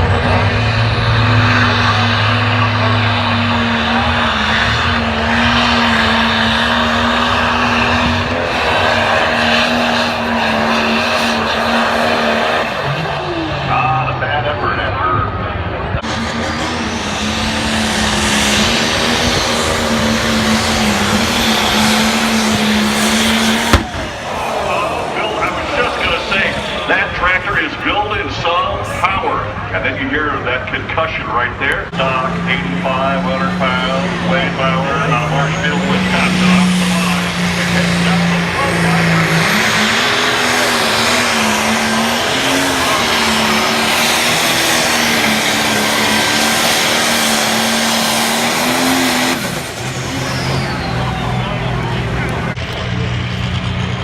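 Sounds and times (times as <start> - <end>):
diesel engine droning at high revs: 0.0 - 54.0.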